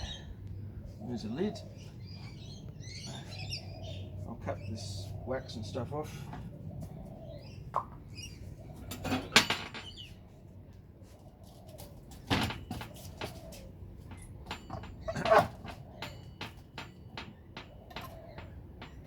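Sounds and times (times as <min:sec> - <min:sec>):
birds chirping faintly: 0:00.0 - 0:19.0.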